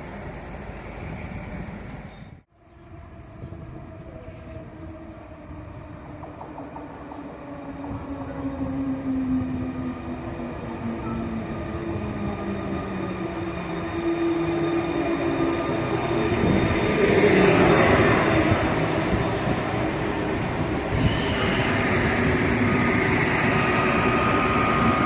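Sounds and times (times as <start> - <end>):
train engine passing: 2.8 - 25.0.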